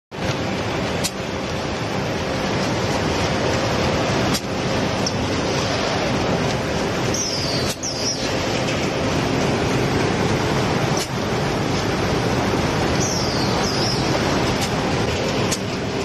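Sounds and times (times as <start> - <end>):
carton folding machine running: 0.1 - 16.0.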